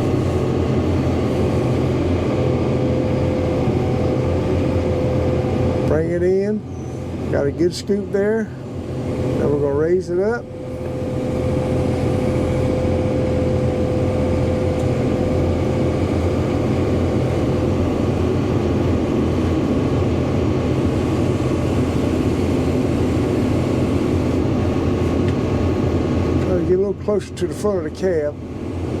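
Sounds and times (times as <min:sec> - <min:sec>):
excavator diesel engine under load: 0:00.0 - 0:29.0
steady whine: 0:00.0 - 0:29.0.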